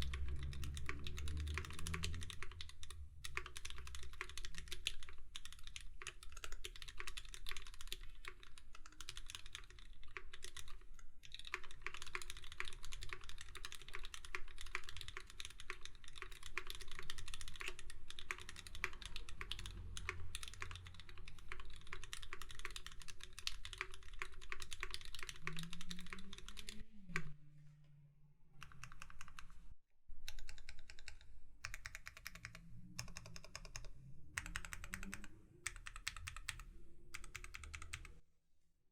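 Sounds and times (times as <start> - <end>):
fast typing on mechanical keyboard: 0.0 - 27.4, 28.6 - 29.6, 30.2 - 38.2.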